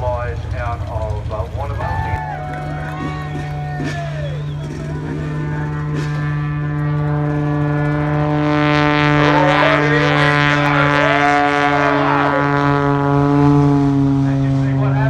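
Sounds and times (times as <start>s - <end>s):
propeller aircraft drone: 0.0s - 15.0s.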